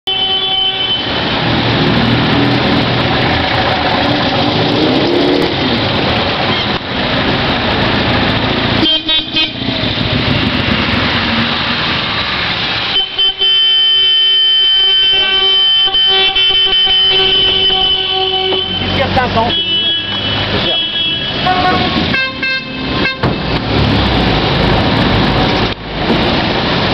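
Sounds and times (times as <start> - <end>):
car and motorcycle engines: 0.9 - 26.9.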